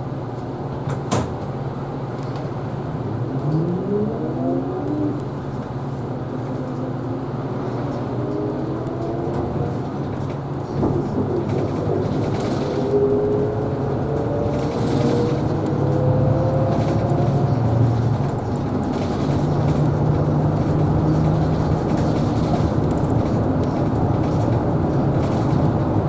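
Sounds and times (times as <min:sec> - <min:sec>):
bus drivetrain hum and whine: 0:00.0 - 0:26.0.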